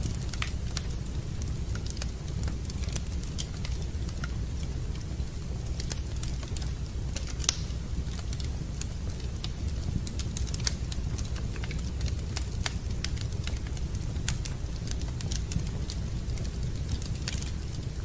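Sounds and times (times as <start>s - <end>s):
low rumble of burning fire: 0.0s - 18.0s
wood fire crackling and popping: 0.0s - 18.0s.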